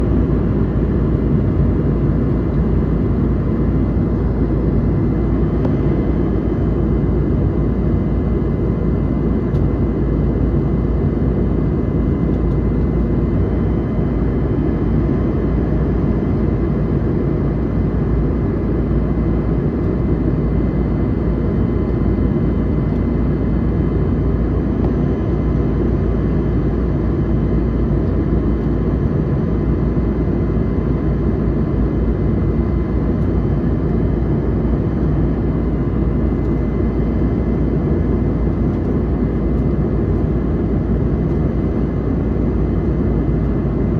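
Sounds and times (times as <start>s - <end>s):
faint hum tones: 0.0s - 43.9s.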